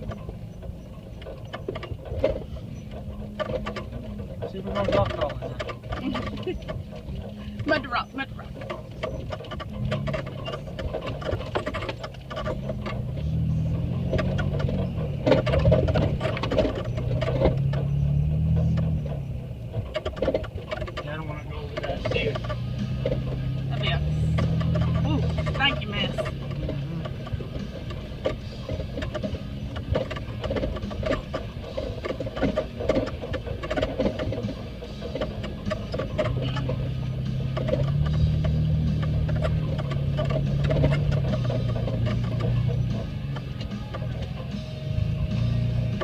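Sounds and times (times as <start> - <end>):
off-road vehicle engine revving: 0.0 - 46.0
vehicle knocks and rattles: 0.0 - 46.0.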